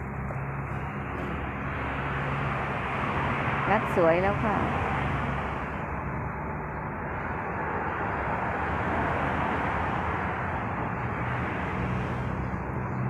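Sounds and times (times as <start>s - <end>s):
outdoor rushing hum: 0.0s - 13.0s.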